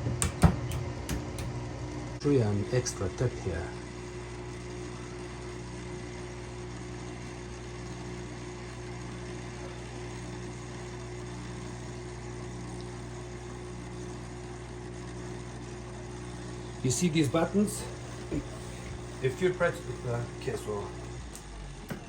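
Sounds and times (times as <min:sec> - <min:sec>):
dishwasher drain pump humming: 0:00.0 - 0:22.0.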